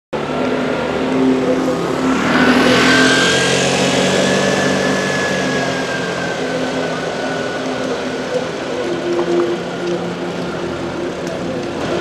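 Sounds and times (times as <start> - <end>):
motor vehicle running: 0.2 - 12.0
rushing noise: 0.2 - 12.0
thin whine rising in pitch: 0.2 - 12.0.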